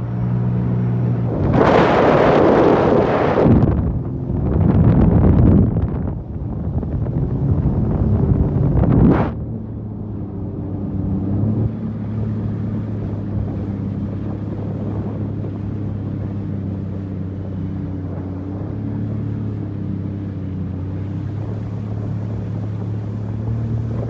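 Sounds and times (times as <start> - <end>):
watercraft engine droning: 0.0 - 24.0.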